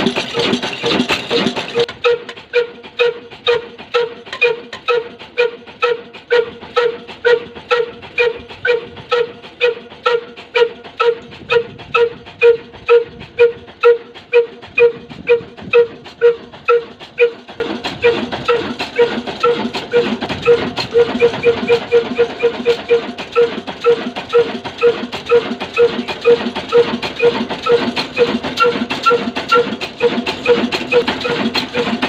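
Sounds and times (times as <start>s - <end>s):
diesel engine exhaust beats: 0.0s - 32.0s.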